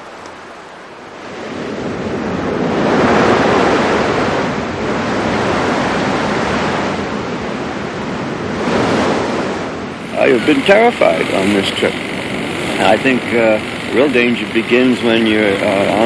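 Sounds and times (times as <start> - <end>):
surf washing onto beach: 0.0 - 16.0.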